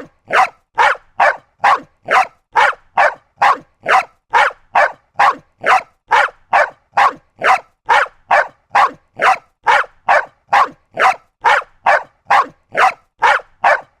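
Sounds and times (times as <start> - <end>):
small dog barking: 0.0 - 14.0.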